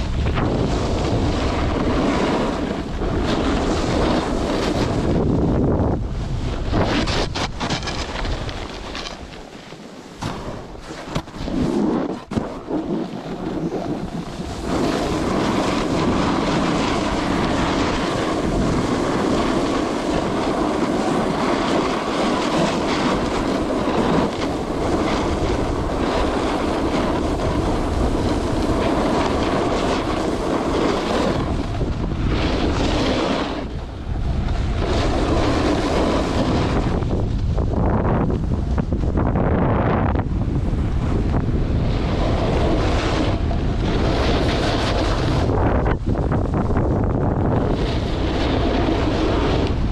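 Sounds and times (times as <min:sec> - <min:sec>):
snowboard scraping across snow: 0:00.0 - 0:49.9
wind buffeting microphone: 0:00.0 - 0:49.9.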